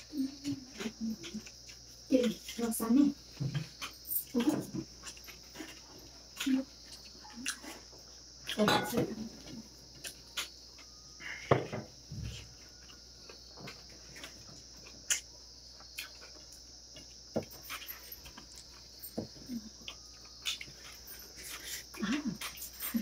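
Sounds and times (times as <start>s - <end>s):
chewing: 0.0s - 2.7s, 3.6s - 8.7s, 9.4s - 11.0s, 12.4s - 23.0s.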